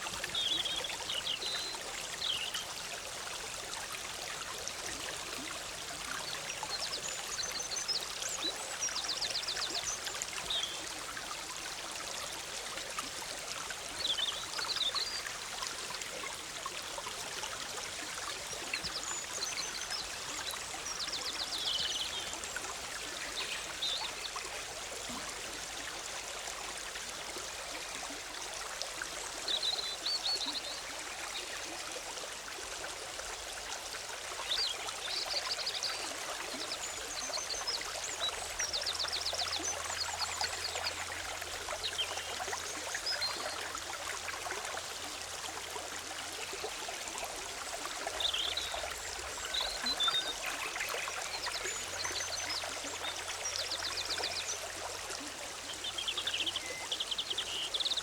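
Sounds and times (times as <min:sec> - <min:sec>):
stream bubbling over rocks: 0:00.0 - 0:58.0.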